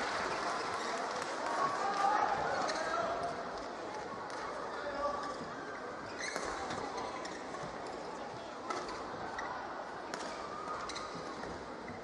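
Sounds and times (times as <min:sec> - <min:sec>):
large hall background noise: 0:00.0 - 0:12.0.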